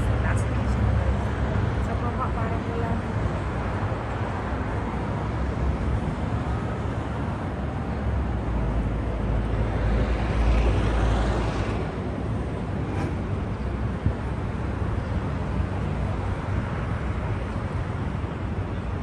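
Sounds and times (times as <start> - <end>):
street traffic: 0.0 - 19.0
wind: 0.0 - 19.0.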